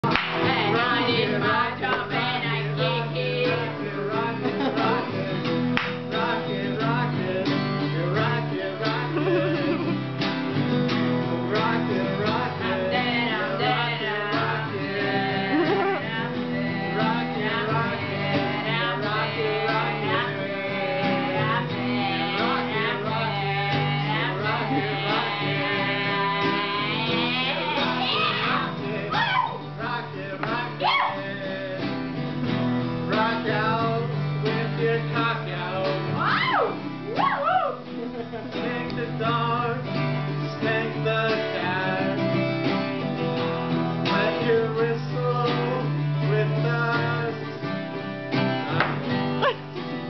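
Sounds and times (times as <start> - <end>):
acoustic guitars strummed: 0.0 - 50.0
small group singing: 0.0 - 50.0.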